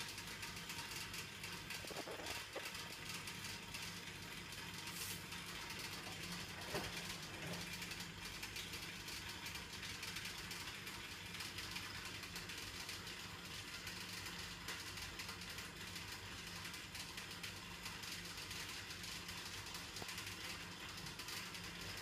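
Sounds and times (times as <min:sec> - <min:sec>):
fast clicking rattle: 0:00.0 - 0:04.6, 0:05.4 - 0:22.0
washing machine humming: 0:00.0 - 0:22.0.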